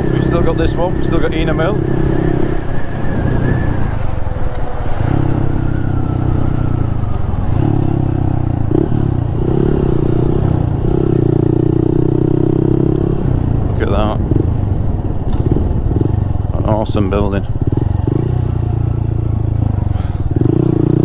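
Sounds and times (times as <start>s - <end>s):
motorcycle engine running: 0.0s - 4.0s, 4.6s - 21.0s.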